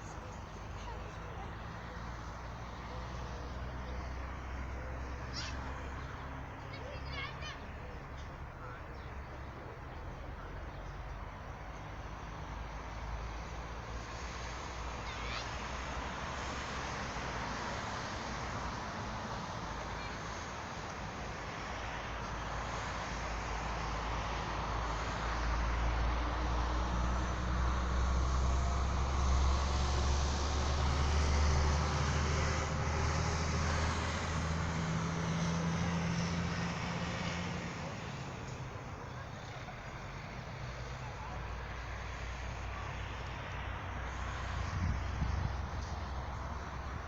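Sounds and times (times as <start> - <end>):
traffic noise: 0.0 - 47.0
vehicle engine rumble passing: 0.0 - 47.0.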